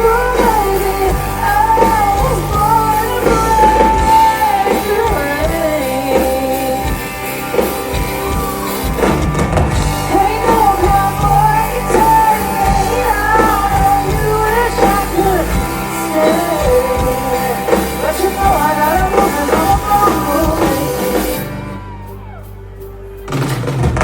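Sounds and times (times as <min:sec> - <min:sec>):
country-rock band playing: 0:00.0 - 0:24.0.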